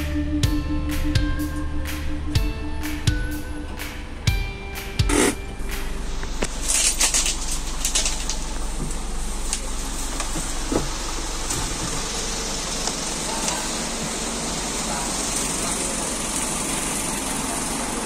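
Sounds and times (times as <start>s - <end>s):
bus engine running with low hum: 0.0s - 18.0s.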